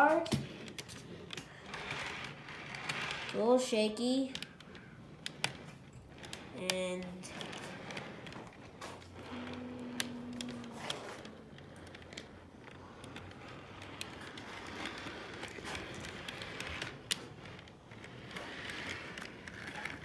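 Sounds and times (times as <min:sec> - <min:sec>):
model train wheels clicking: 0:00.0 - 0:20.0
steady hum: 0:00.0 - 0:20.0.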